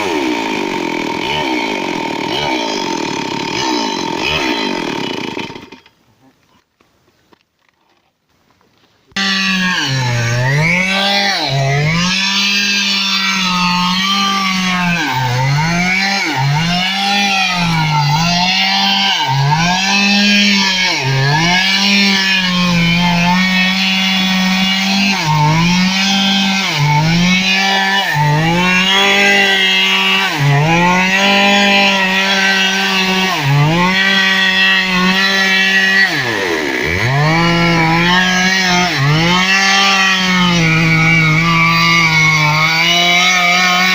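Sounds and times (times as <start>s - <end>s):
chainsaw cutting at high revs: 0.0s - 5.9s, 9.1s - 43.9s.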